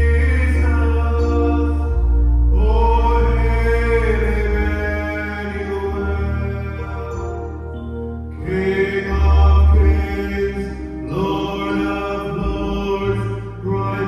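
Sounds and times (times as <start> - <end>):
man singing: 0.0 - 7.7, 8.4 - 14.0
deep bass notes: 0.0 - 14.0
keyboard chords: 0.0 - 14.0.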